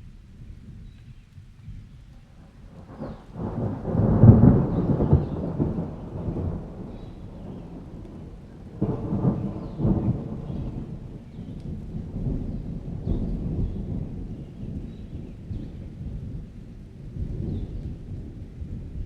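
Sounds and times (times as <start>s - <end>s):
steady rain: 0.0s - 19.0s
thunder rumbling: 2.4s - 19.0s.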